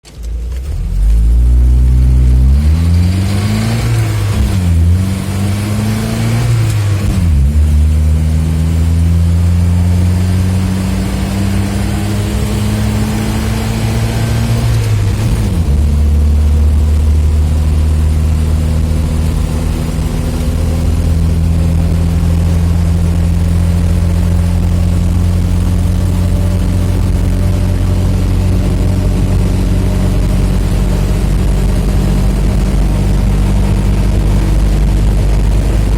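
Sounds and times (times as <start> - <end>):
engine pulling through gears: 0.0 - 35.9.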